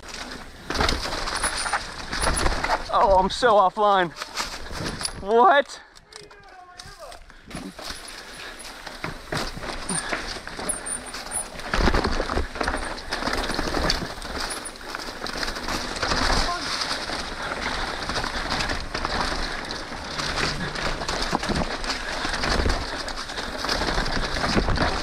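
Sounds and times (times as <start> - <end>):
bike knocking and rattling: 0.0 - 25.0
bike tyres rolling over dirt: 0.0 - 25.0.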